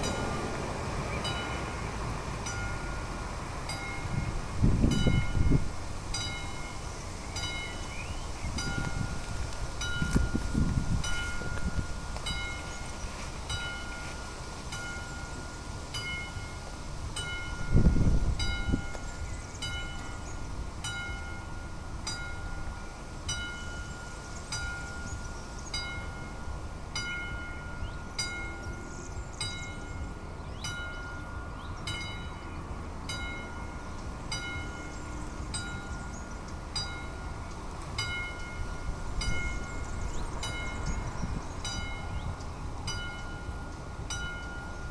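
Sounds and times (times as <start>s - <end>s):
level crossing warning bell: 0.0s - 8.0s, 8.6s - 37.4s, 38.0s - 44.9s.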